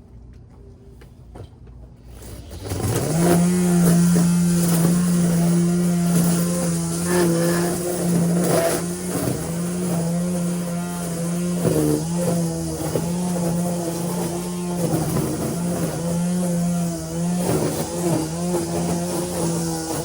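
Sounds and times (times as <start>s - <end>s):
lawn mower running: 2.1s - 20.0s.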